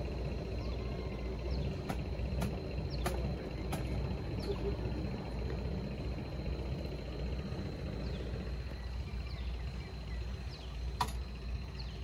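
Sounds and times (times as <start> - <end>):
low outdoor rumble: 0.0 - 12.0
bird chirping: 0.3 - 5.3, 6.5 - 12.0.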